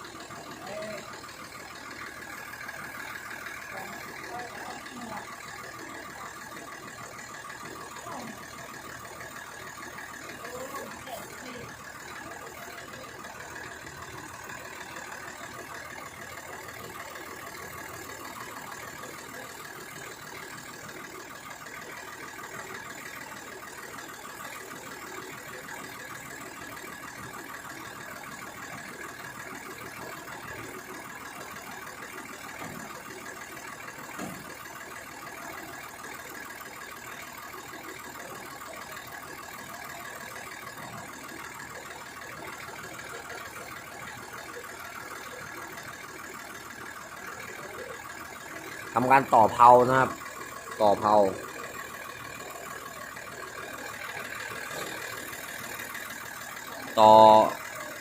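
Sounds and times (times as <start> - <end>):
threshing machine engine idling: 0.0 - 58.0.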